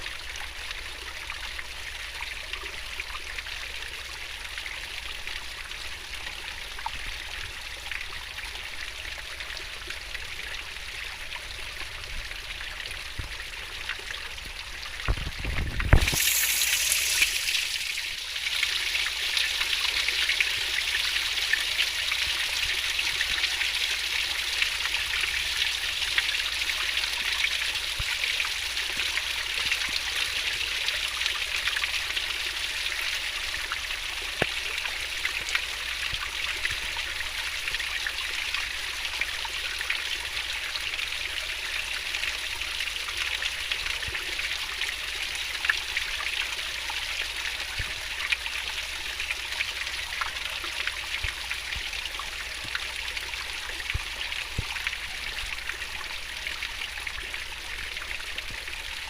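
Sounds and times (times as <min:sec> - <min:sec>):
stream water rushing over rocks: 0:08.7 - 0:59.0.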